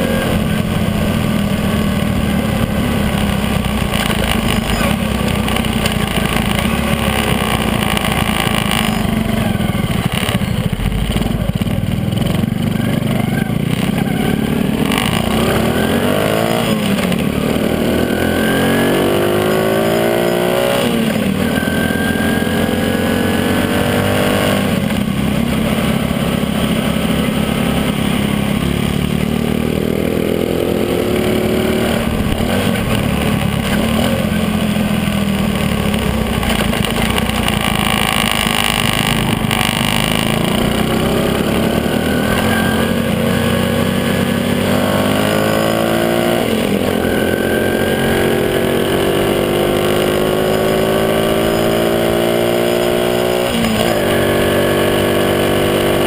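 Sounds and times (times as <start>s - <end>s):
small motorcycle engine: 0.0s - 56.0s
wind and tyre noise: 0.0s - 56.0s.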